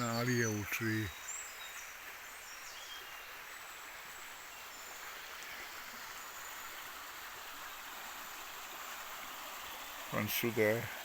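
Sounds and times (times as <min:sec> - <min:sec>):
faint birdsong: 0:00.0 - 0:11.0
river water rushing: 0:00.0 - 0:11.0.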